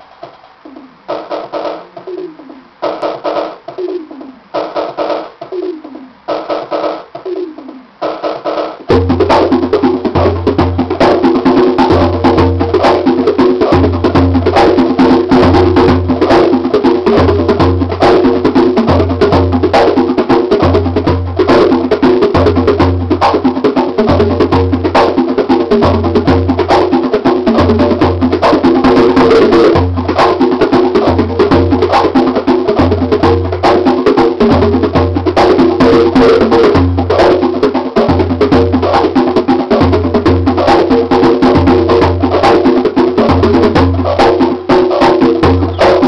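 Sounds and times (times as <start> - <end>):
drum machine pattern: 0.0 - 46.0
hand drums playing: 0.0 - 46.0.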